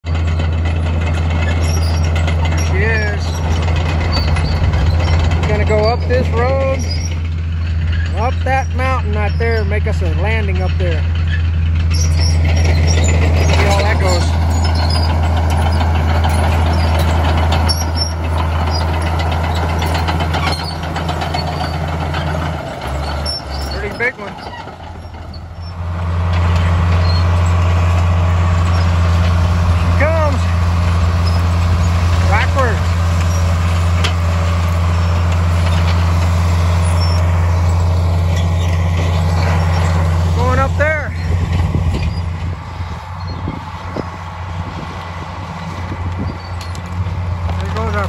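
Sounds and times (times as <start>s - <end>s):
bulldozer diesel engine running: 0.0s - 48.0s
steel tracks clanking: 0.0s - 48.0s.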